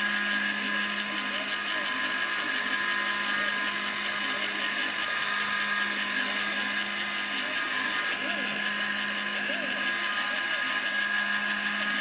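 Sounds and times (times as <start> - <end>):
mill spindle motor whining: 0.0 - 12.0.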